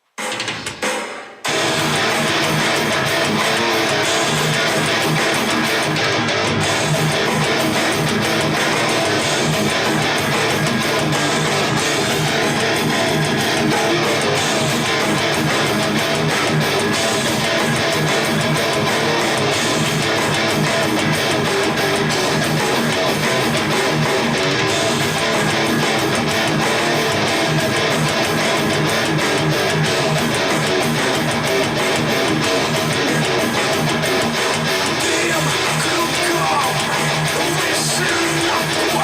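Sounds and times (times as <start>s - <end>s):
guitar music over loudspeakers: 1.5s - 39.0s.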